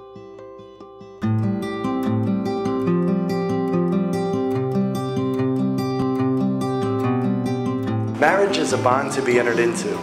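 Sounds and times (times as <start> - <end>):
picked and strummed guitar music: 0.0 - 10.0.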